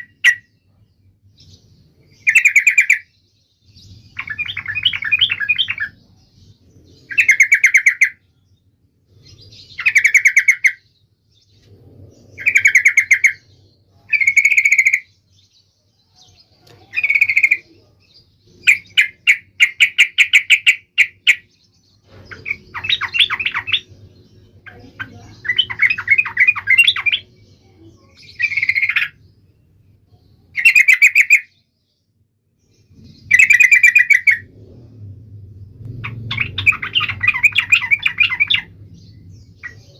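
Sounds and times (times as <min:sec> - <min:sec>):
bird singing chattering phrases: 0:00.0 - 0:34.5, 0:35.8 - 0:39.9.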